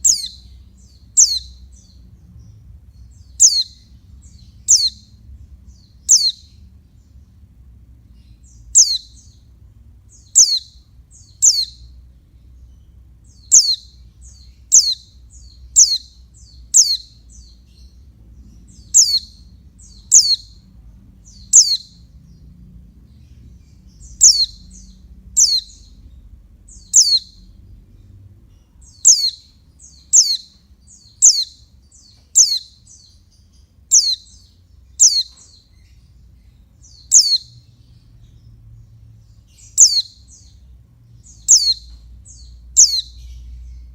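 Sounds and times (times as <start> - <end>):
bird chirping: 0.0 - 43.9.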